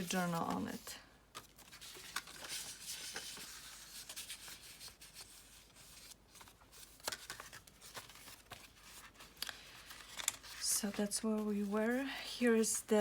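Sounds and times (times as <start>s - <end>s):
paper rustling: 0.0s - 12.8s.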